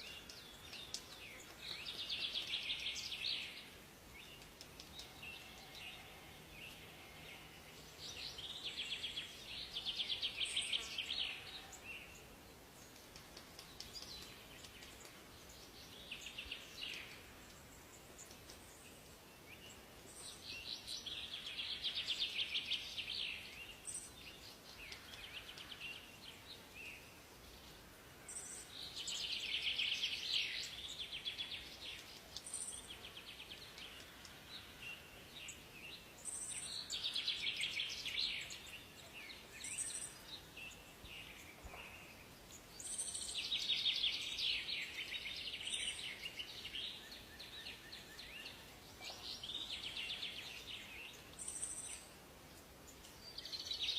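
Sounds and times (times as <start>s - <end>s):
faint forest hiss: 0.0s - 53.9s.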